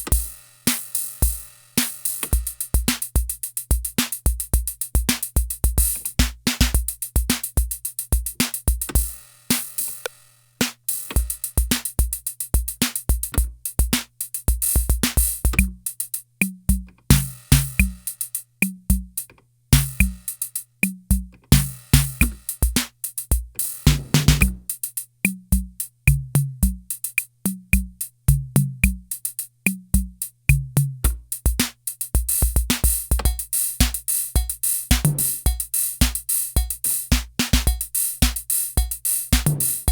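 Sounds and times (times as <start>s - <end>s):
drum machine rhythm patterns: 0.0s - 39.9s.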